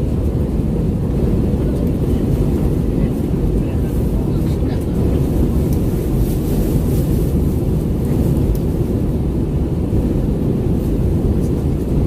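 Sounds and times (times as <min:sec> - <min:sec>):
airplane cabin engine roar: 0:00.0 - 0:12.0.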